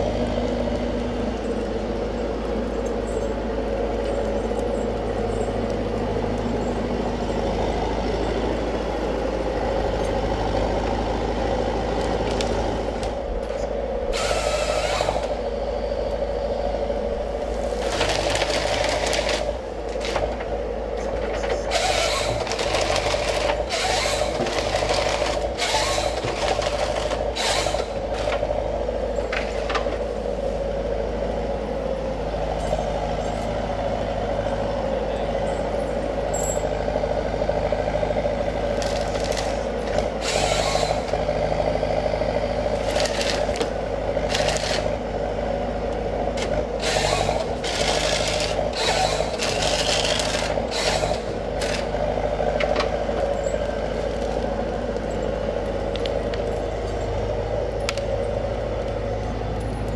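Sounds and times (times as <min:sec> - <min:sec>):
harvester engine running: 0:00.0 - 0:59.9.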